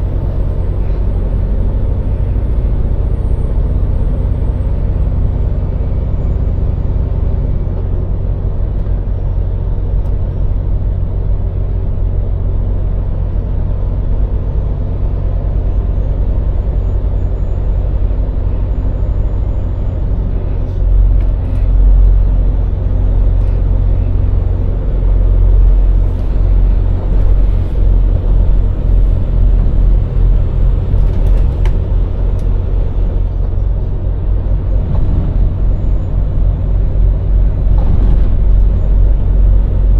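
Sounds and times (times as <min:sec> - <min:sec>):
lorry engine rumbling: 0:00.0 - 0:39.9.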